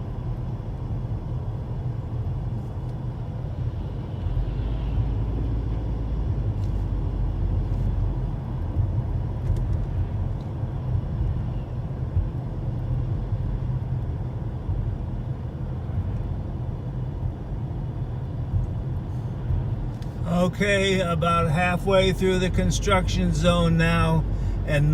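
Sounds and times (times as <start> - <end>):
car engine and tyre rumble: 0.0 - 24.9.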